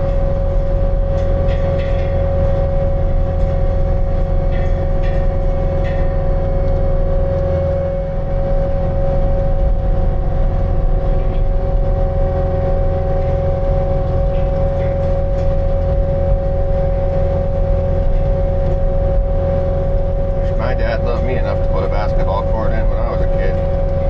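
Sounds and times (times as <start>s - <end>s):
construction machine engine running: 0.0s - 24.0s.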